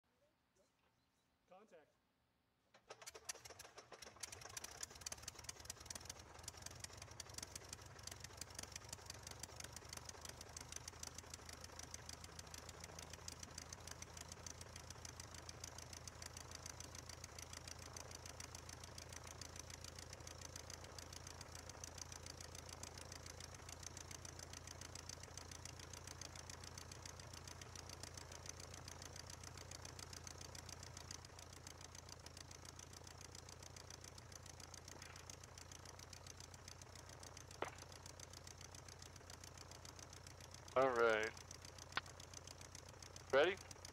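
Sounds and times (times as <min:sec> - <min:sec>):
small aircraft engine idling: 0:02.8 - 0:43.9.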